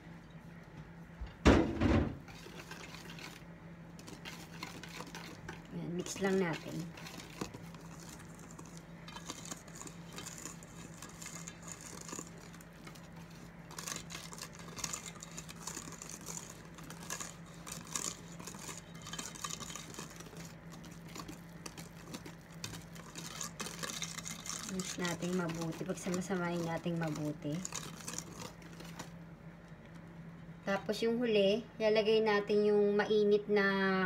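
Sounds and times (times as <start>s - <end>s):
whisk scraping metal bowl: 1.8s - 29.2s.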